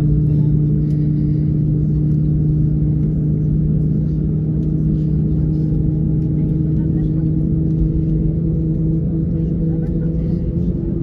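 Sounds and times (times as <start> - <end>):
aircraft cabin engine drone: 0.0 - 11.0.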